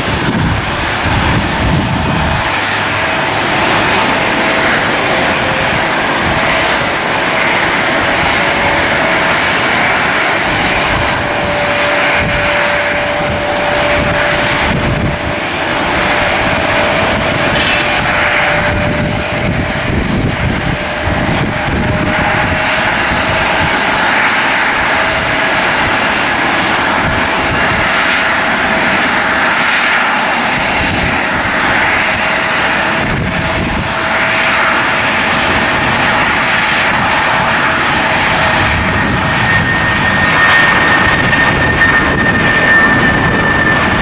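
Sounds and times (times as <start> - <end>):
airliner engines whining and roaring: 0.0 - 44.0.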